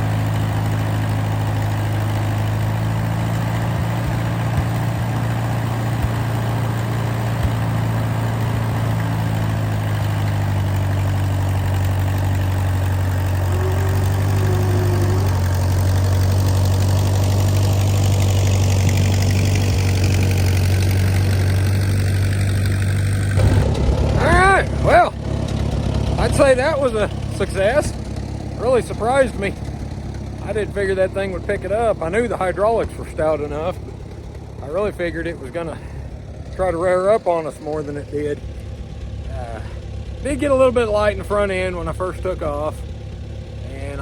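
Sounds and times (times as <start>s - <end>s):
tractor engine running steadily: 0.0s - 44.0s.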